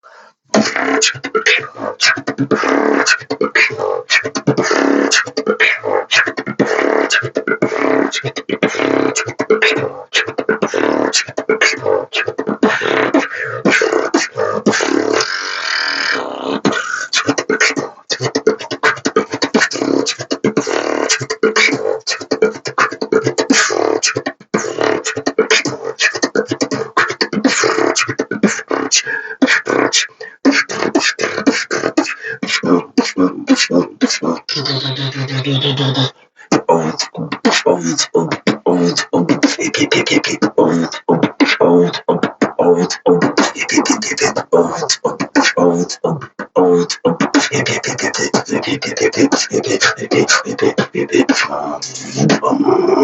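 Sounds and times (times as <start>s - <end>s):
beatboxing: 0.0s - 53.0s.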